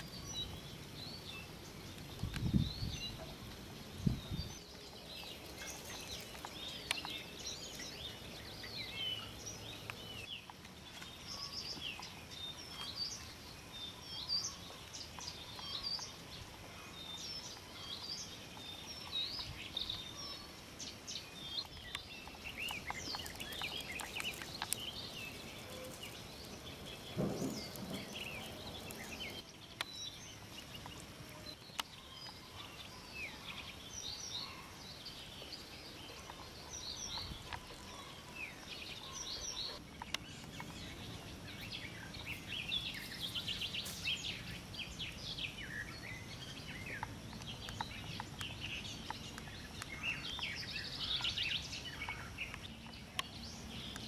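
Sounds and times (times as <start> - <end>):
background hiss: 0.0 - 54.0
songbirds chirping and trilling: 0.0 - 54.0.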